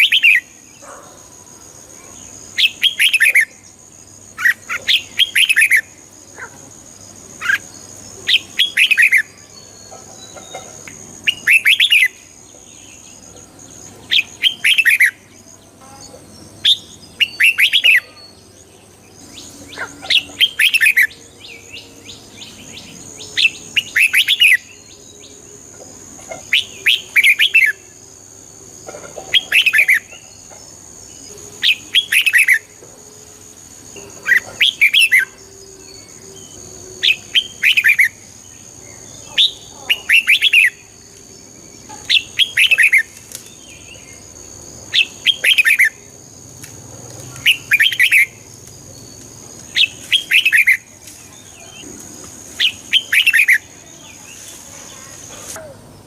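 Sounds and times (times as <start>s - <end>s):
bulbul singing warbled phrases: 0.0s - 1.0s, 1.9s - 13.2s, 13.8s - 25.4s, 29.4s - 32.8s, 34.2s - 41.0s, 41.7s - 46.1s, 47.2s - 48.5s, 49.1s - 51.9s, 52.6s - 56.0s.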